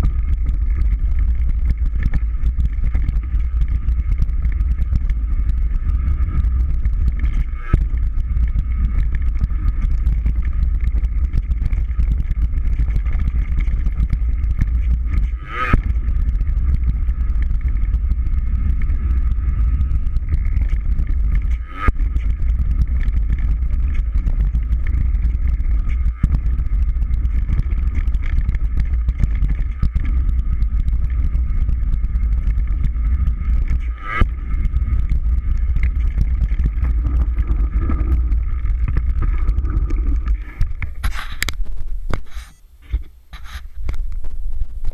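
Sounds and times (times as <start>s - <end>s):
faint high hum: 0.0s - 44.9s
wind and trail rumble: 0.0s - 44.9s.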